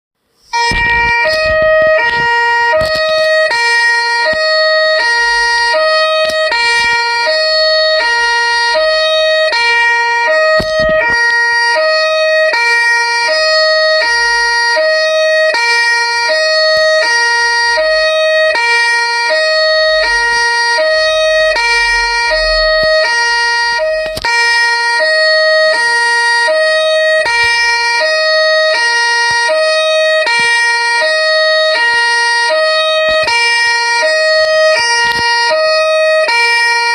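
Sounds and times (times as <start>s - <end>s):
steady high tone: 0.3s - 36.9s
two-tone siren ringtone: 0.5s - 36.9s.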